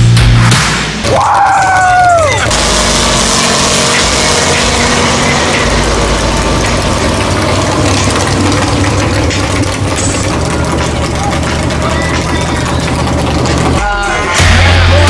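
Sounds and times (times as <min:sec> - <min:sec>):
off-road vehicle engine running: 0:01.3 - 0:15.0.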